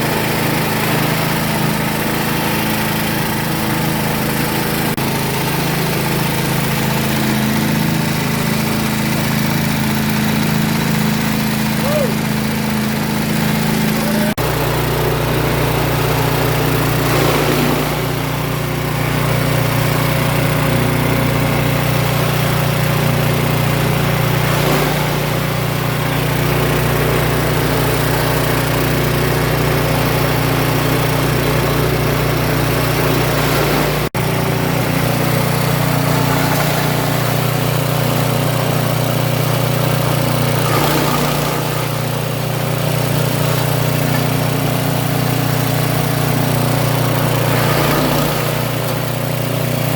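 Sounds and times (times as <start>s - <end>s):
grass chopper engine droning: 0.0s - 49.9s.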